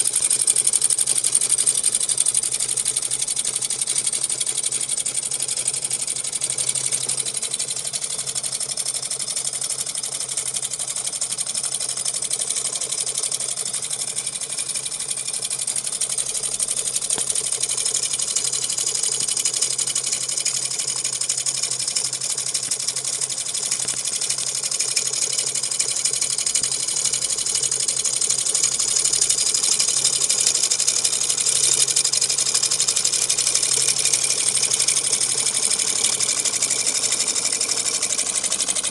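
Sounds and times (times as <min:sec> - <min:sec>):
small engine rapid mechanical rattle: 0:00.0 - 0:38.9.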